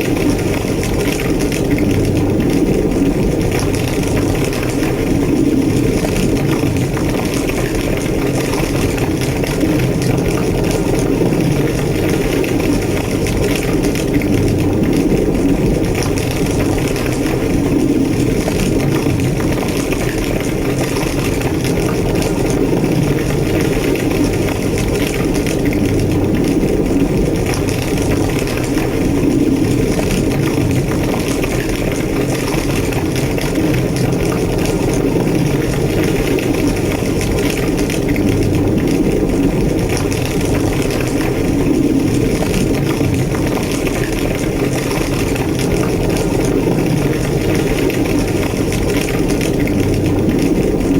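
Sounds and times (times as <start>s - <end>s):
fire roaring and crackling: 0.0s - 50.9s.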